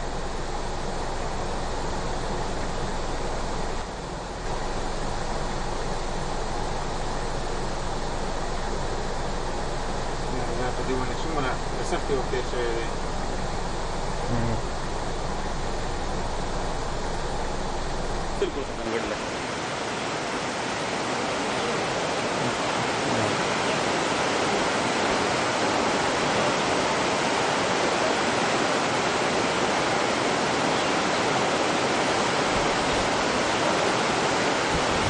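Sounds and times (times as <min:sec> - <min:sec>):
rushing water roar: 0:00.0 - 0:35.0.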